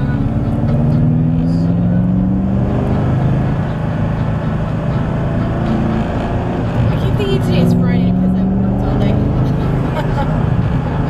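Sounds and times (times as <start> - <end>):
car engine accelerating: 0.0 - 11.0
road noise: 0.0 - 11.0.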